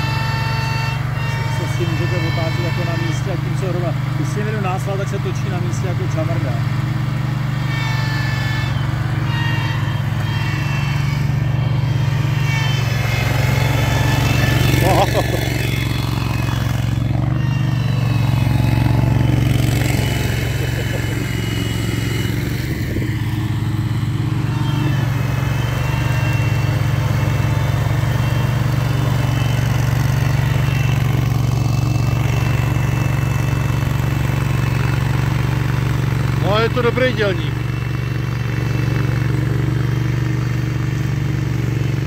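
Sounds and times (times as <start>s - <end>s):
mower petrol engine droning: 0.0s - 42.0s.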